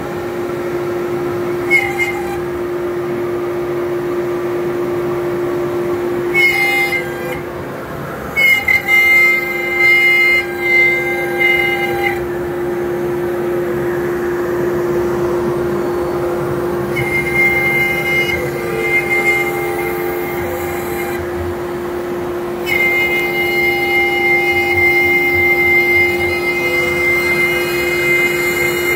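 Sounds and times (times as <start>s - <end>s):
higher multi-toned whine: 0.0s - 28.9s
router spindle whine: 0.0s - 28.9s.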